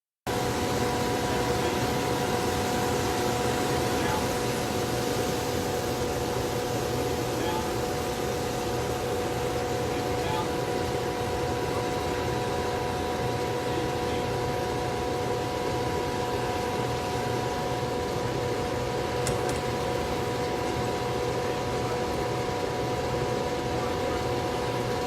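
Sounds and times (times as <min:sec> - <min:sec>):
fan rushing air: 0:00.3 - 0:25.0.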